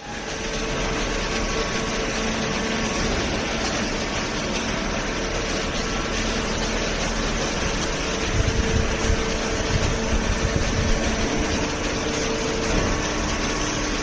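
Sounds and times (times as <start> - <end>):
baler machine humming: 0.0 - 14.0.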